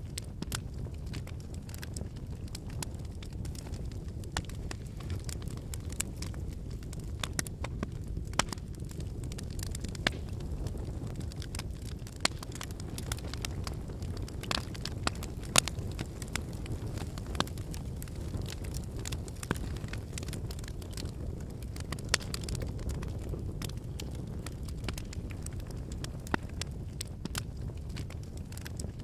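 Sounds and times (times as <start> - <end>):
firewood crackles and pops: 0.0 - 29.0
low rush of flames: 0.0 - 29.0.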